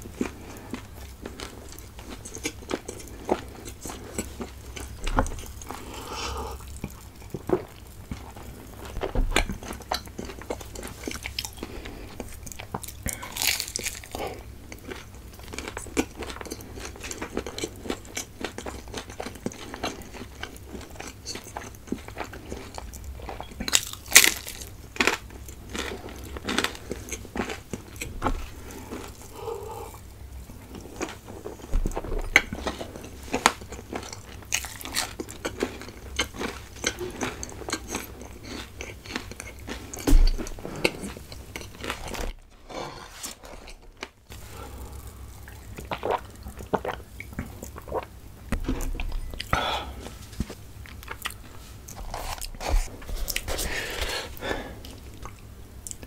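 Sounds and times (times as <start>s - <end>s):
crunching and chewing: 0.0s - 56.0s.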